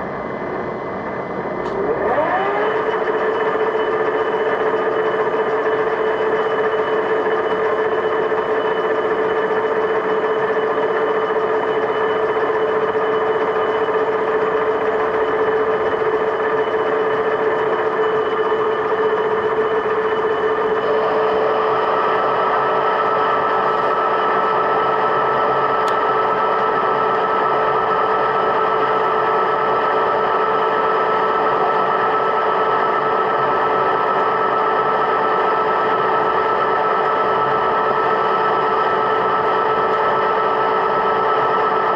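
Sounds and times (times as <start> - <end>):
machine tool whine: 0.0 - 41.9.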